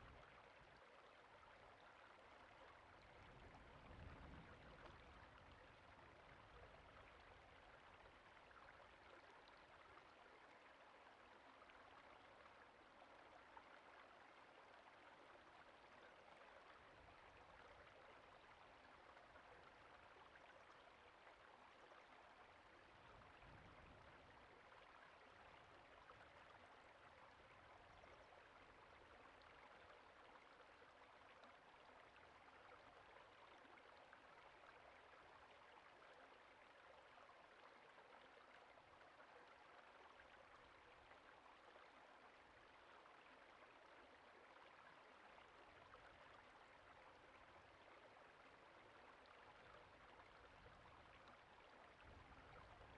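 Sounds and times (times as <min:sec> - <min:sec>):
creek water flowing: 0:00.0 - 0:52.9.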